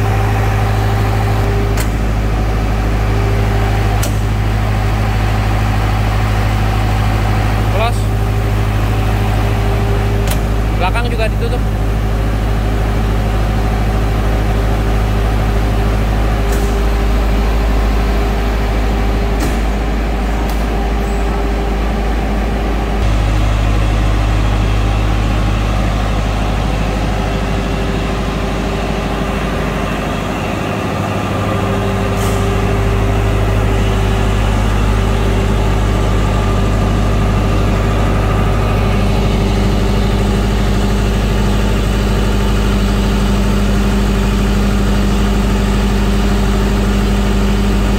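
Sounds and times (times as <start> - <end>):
diesel generator running: 0.0 - 47.9.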